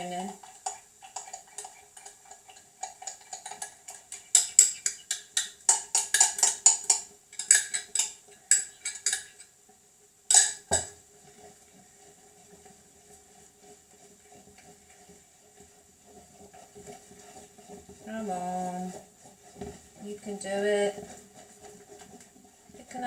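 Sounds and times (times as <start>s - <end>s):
utensil scraping metal saucepan: 0.0s - 23.0s.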